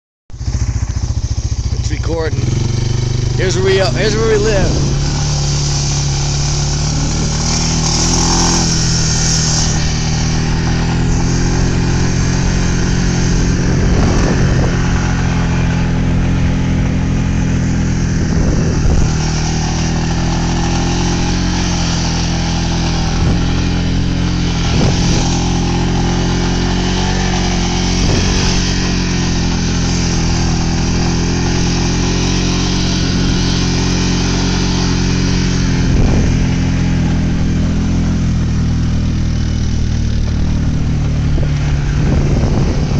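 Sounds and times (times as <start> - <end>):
atv engine running: 0.3 - 42.9.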